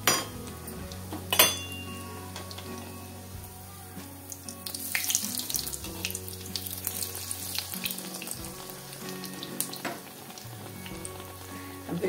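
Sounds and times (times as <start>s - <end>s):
bread deep-frying in hot oil: 0.0s - 12.0s.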